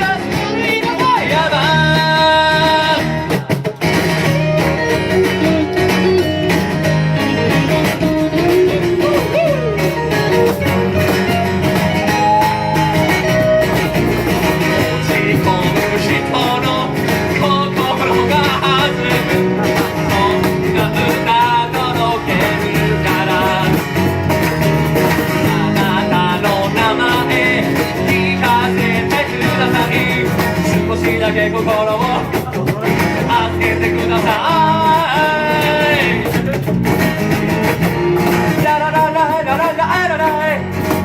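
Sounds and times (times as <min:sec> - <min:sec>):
bass guitar: 0:00.0 - 0:41.0
cajon: 0:00.0 - 0:41.0
lead guitar bending notes: 0:00.0 - 0:41.0
strummed acoustic guitar: 0:00.0 - 0:41.0.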